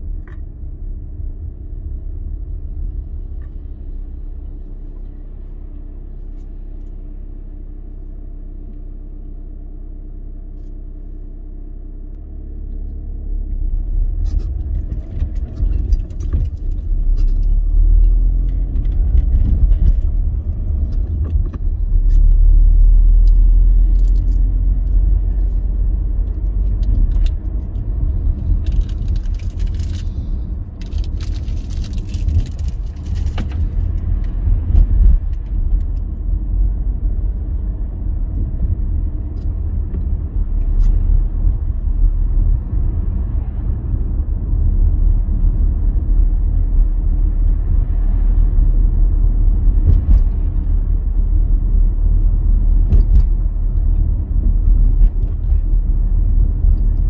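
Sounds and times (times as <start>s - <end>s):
vehicle rumble on road: 0.0s - 57.0s.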